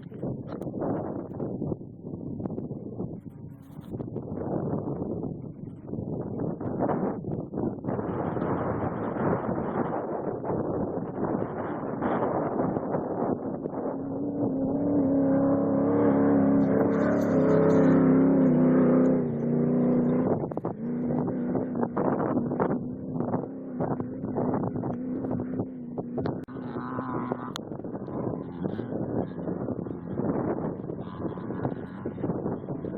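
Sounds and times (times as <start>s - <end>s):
race vehicle engine running: 0.0s - 32.9s
wind gusts on microphone: 0.0s - 32.9s.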